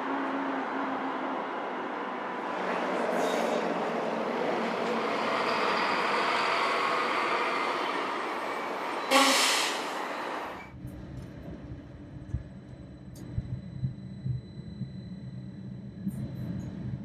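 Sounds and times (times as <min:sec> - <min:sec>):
train rail running noise: 0:00.0 - 0:17.0.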